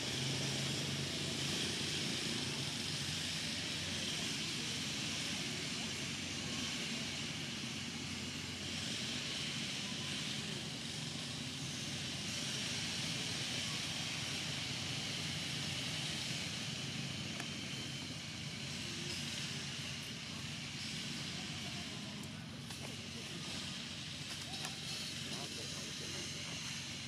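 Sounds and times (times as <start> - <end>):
high steady hiss: 0.0 - 27.0.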